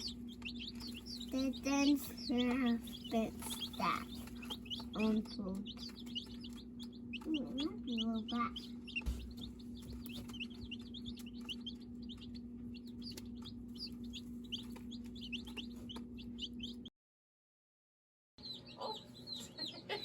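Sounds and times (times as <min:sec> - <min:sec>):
chicks peeping: 0:00.0 - 0:16.9, 0:18.4 - 0:20.0
low hum: 0:00.0 - 0:16.9.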